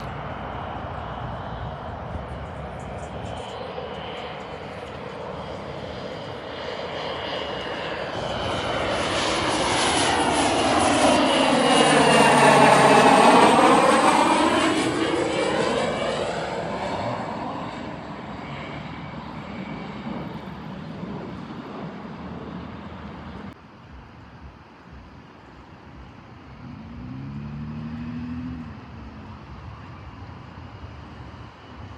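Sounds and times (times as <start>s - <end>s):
jet aircraft passing: 0.0s - 23.6s, 25.4s - 31.9s
high turbine whine: 0.0s - 26.6s.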